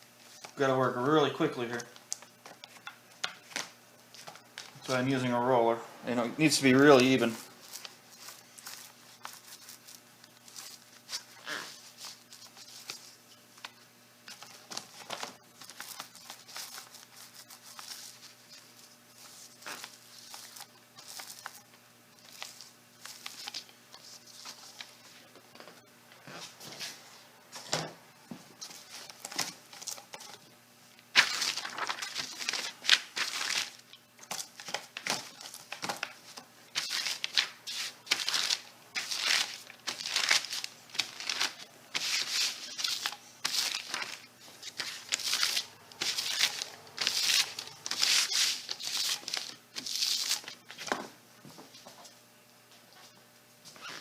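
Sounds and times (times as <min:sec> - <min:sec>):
paper crinkling and rustling: 0:00.2 - 0:05.3, 0:06.7 - 0:25.8, 0:28.6 - 0:30.4, 0:31.1 - 0:51.1.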